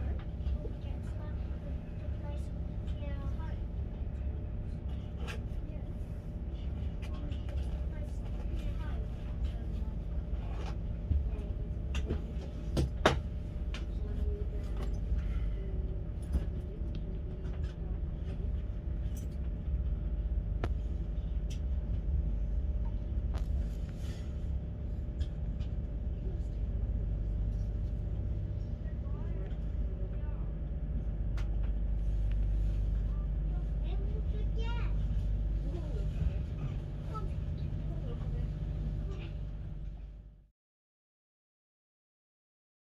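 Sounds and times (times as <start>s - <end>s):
train rumble inside carriage: 0.0s - 40.5s.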